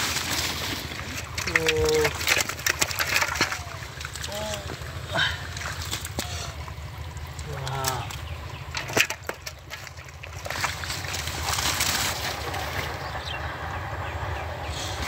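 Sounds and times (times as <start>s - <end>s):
sloshing in muddy water: 0.0s - 14.0s.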